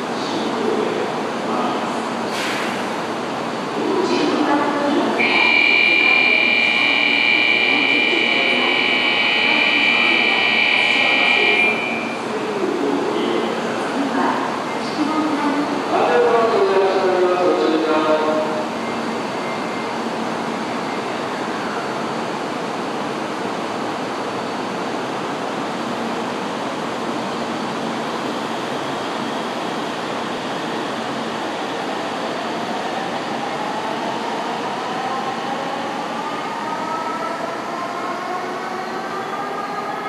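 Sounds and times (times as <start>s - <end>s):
train rushing noise: 0.0s - 40.0s.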